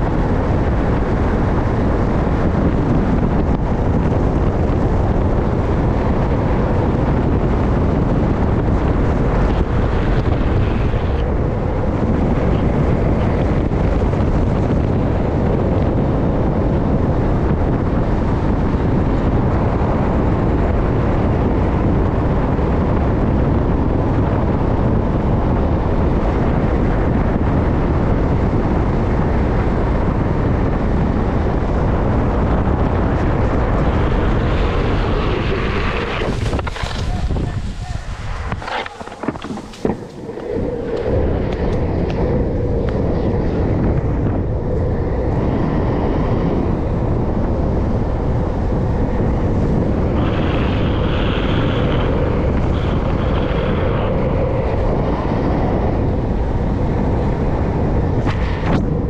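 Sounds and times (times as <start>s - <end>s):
wheels rolling on rough asphalt: 0.0s - 59.0s
wind rushing over microphone: 0.0s - 59.0s.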